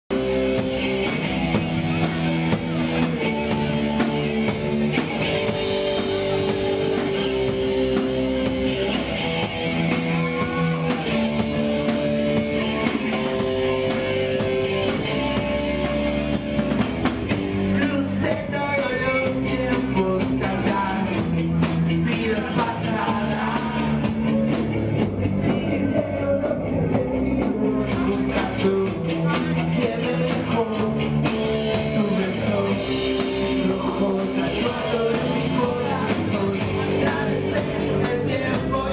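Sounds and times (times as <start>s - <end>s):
drum kit: 0.0s - 38.9s
person singing: 0.1s - 16.0s, 17.6s - 24.7s, 25.3s - 38.9s
electric guitar: 0.1s - 38.9s.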